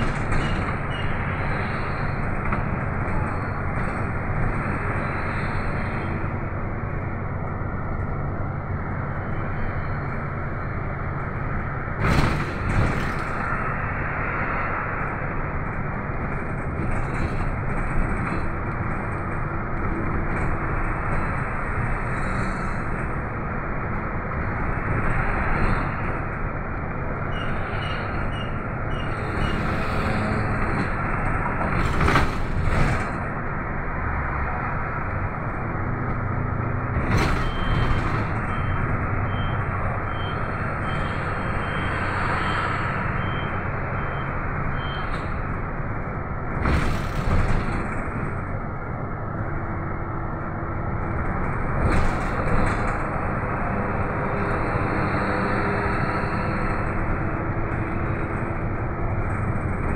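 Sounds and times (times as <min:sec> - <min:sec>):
bus engine running: 0:00.0 - 0:59.9
tyre and road noise: 0:00.0 - 0:59.9.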